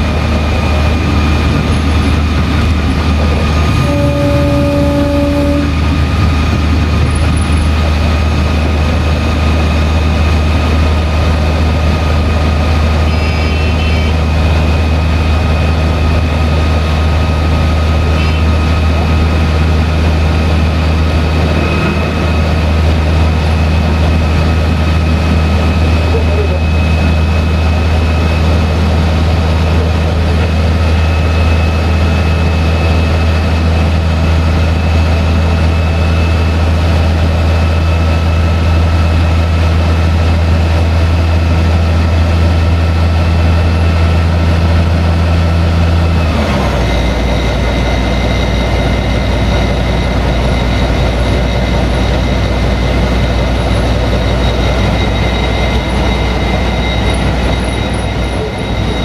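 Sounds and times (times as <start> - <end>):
high steady whine: 0.0 - 59.0
railcar engine drone: 0.0 - 59.0
wheels rolling on track: 0.0 - 59.0.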